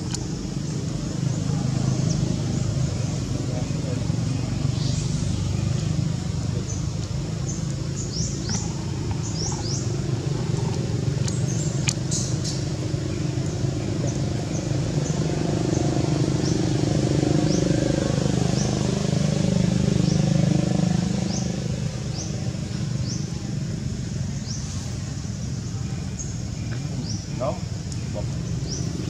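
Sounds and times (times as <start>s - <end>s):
bird chirping: 0.0s - 29.0s
low engine rumble: 0.0s - 29.0s.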